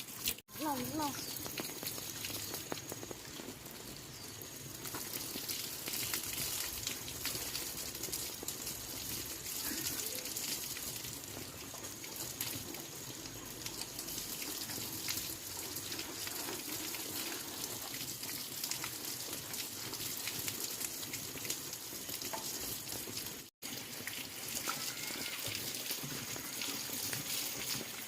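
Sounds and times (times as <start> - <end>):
water running and splashing: 0.0 - 28.0.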